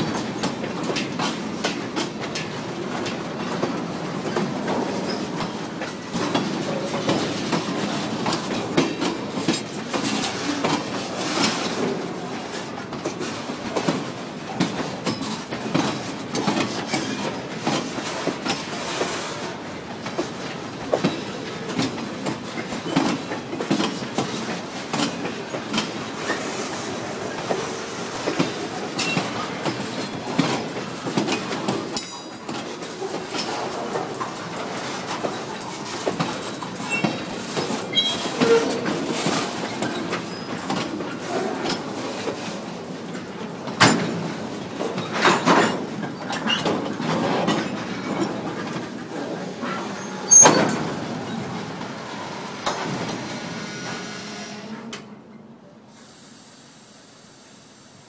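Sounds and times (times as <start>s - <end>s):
train wheels clacking over rails: 0.0s - 55.1s.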